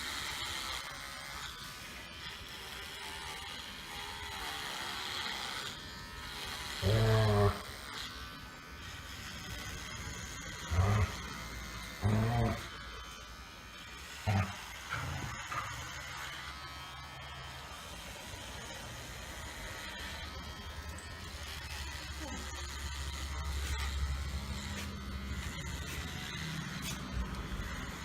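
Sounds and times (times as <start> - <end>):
hair clipper buzzing: 0.0 - 28.0.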